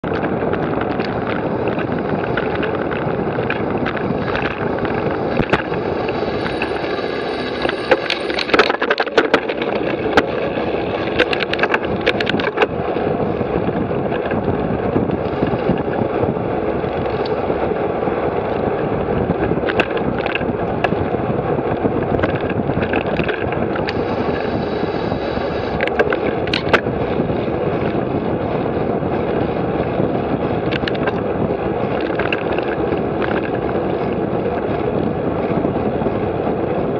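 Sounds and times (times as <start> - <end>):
bicycle clicks and rattles: 0.0 - 36.9
wind and road rush: 0.0 - 36.9.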